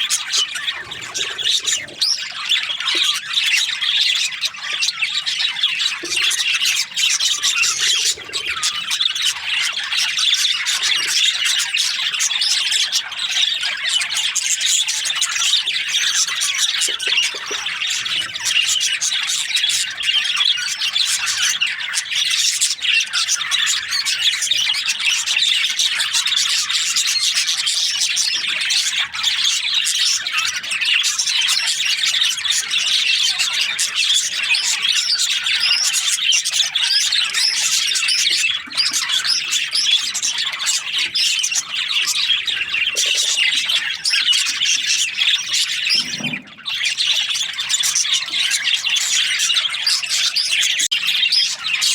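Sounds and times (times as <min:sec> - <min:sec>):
bird squawks: 0:00.0 - 0:51.9
budgerigars chattering and chirping: 0:00.0 - 0:51.9.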